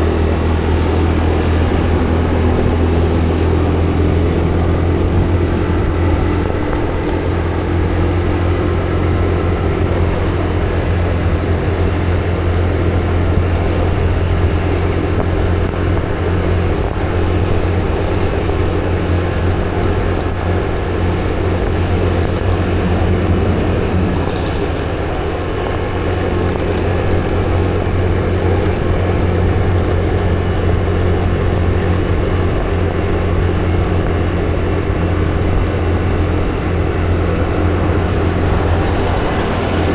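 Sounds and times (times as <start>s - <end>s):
road noise: 0.0s - 39.9s
vehicle engine droning: 0.0s - 39.9s.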